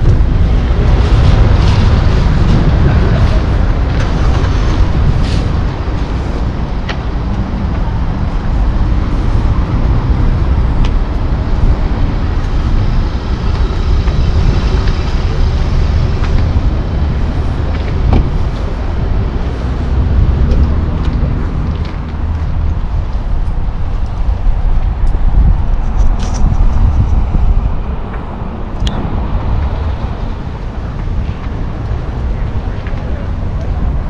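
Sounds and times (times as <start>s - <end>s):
traffic noise: 0.0s - 34.0s
wind buffeting microphone: 0.0s - 34.0s.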